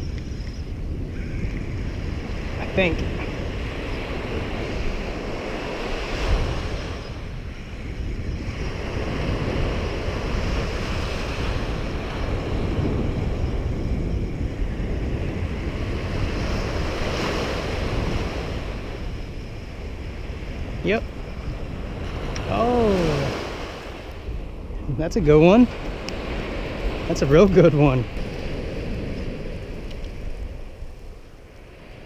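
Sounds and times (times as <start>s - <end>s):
wind buffeting microphone: 0.0s - 32.0s
small waves breaking on sand: 1.6s - 32.0s.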